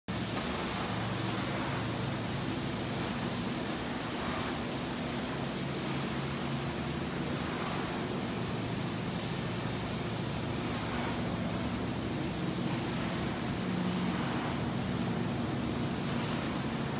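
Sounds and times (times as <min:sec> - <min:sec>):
extraction wands sucking water: 0:00.1 - 0:16.9.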